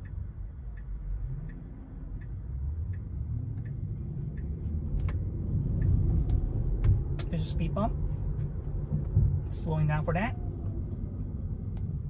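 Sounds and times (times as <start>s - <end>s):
low road rumble: 0.0s - 12.0s
turn signal ticking: 0.0s - 12.0s.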